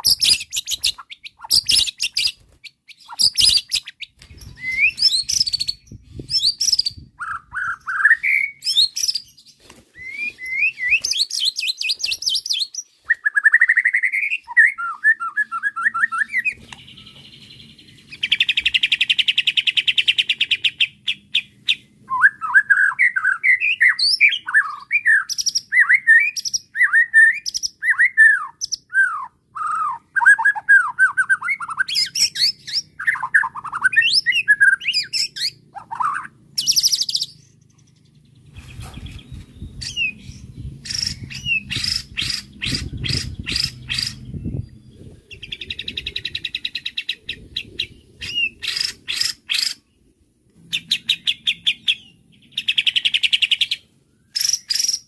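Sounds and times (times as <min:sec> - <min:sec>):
bird singing whistles and rattles: 0:00.0 - 0:37.4, 0:38.5 - 0:49.8, 0:50.7 - 0:55.0.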